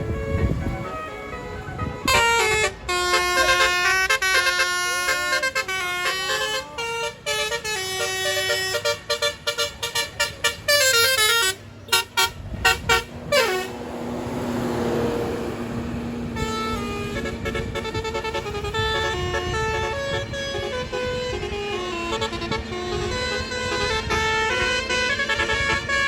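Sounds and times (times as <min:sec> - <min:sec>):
air horn playing a melody: 0:00.0 - 0:26.0.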